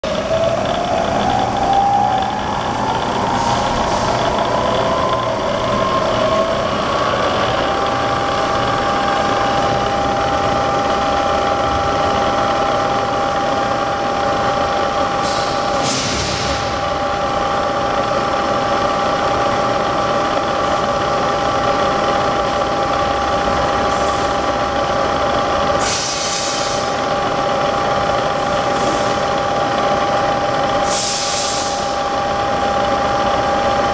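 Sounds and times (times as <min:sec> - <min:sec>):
milling machine spindle whine: 0:00.0 - 0:33.9.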